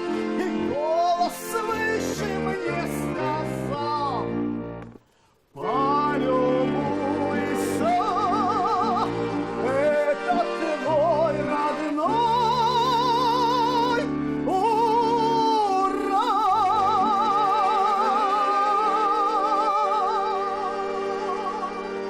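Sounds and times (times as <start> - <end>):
person singing with vibrato: 0.0 - 4.4, 5.6 - 22.0
sustained instrumental accompaniment: 0.0 - 5.0, 5.6 - 22.0.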